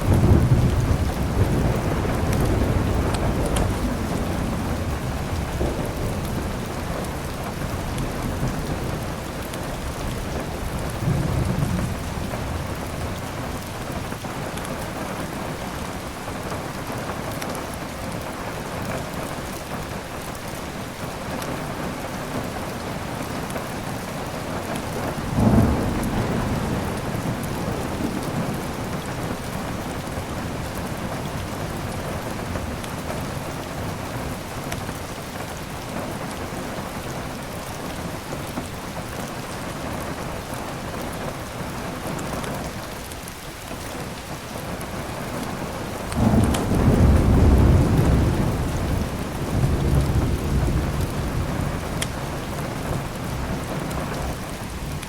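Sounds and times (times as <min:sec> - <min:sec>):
thunder rumbling: 0:00.0 - 0:16.2, 0:24.5 - 0:42.2, 0:44.7 - 0:55.0
heavy rain: 0:00.0 - 0:55.0.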